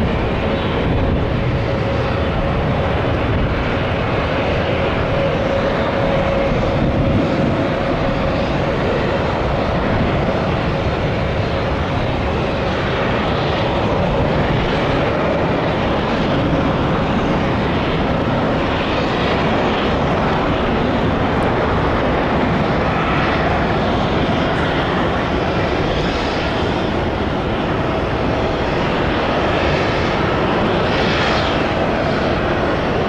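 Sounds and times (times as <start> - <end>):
faint jet engine whine: 0.0 - 33.0
jet engines rushing: 0.0 - 33.0.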